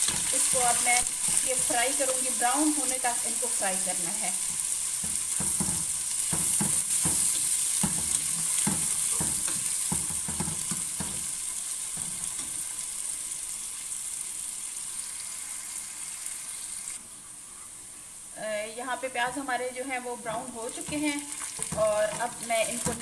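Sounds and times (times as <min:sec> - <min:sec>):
onions sizzling in hot oil: 0:00.0 - 0:17.0, 0:18.1 - 0:23.0.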